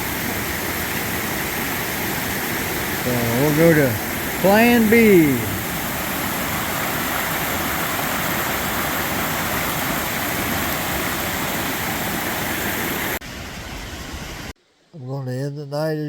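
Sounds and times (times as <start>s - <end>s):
stream rushing: 0.0s - 14.5s.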